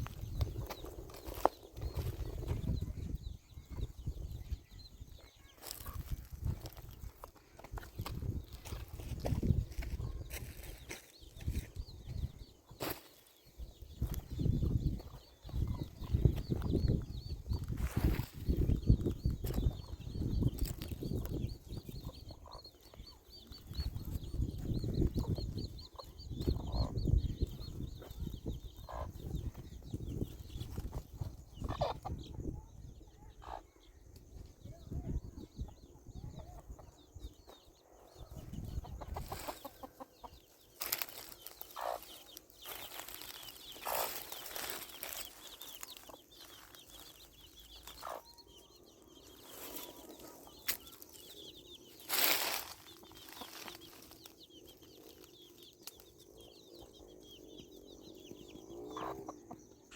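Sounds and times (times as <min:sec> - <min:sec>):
chicken clucking: 0:00.1 - 0:12.8, 0:13.8 - 0:33.7, 0:34.7 - 0:56.1, 0:58.2 - 0:59.9.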